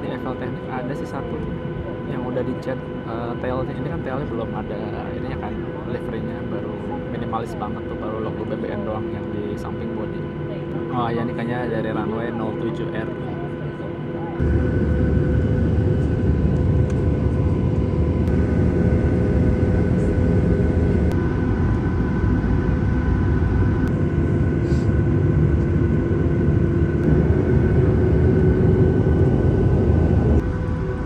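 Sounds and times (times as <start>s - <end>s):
aircraft cabin engine drone: 0.0s - 31.0s.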